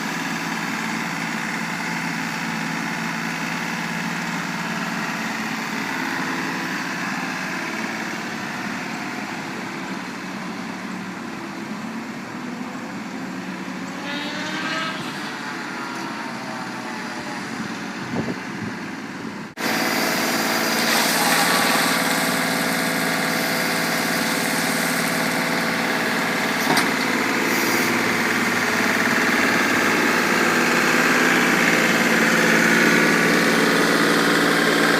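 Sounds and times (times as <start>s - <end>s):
tractor engine running: 0.0s - 14.0s, 15.4s - 34.9s.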